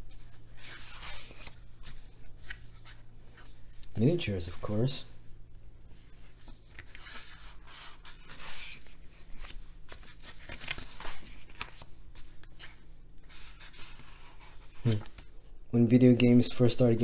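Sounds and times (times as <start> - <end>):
book pages turning: 0.0 - 4.8, 5.9 - 15.3.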